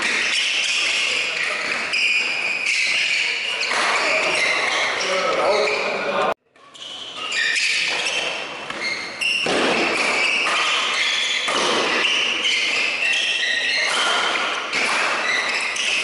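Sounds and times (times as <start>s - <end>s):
rackets hitting shuttlecock: 0.0s - 4.7s, 7.6s - 16.0s
shoes squeaking on court floor: 0.0s - 16.0s.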